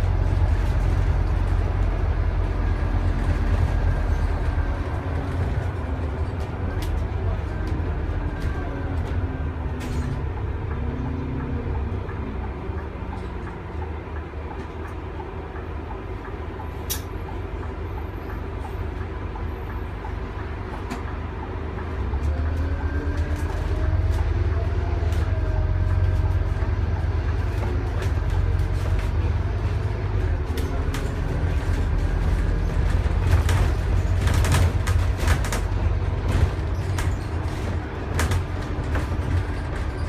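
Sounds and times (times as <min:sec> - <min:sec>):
bus engine rumbling: 0:00.0 - 0:40.0.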